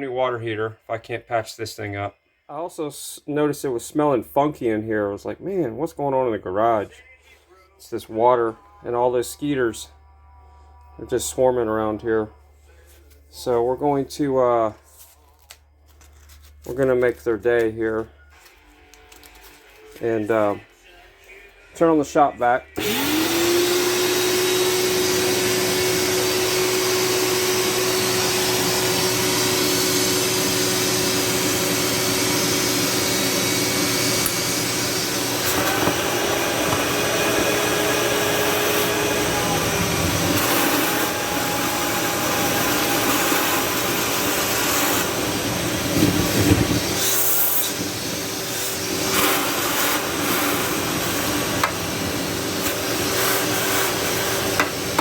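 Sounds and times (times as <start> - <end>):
shop vac whining: 7.8 - 55.0.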